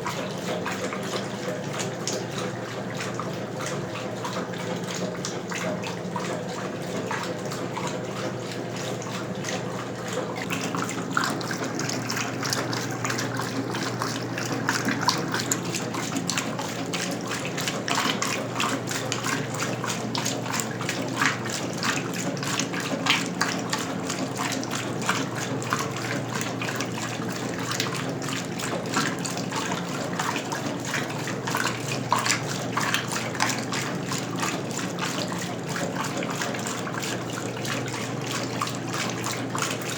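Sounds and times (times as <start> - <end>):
short splashes: 0.0 - 39.9
washing machine hum: 0.0 - 39.9
water sloshing: 0.0 - 39.9.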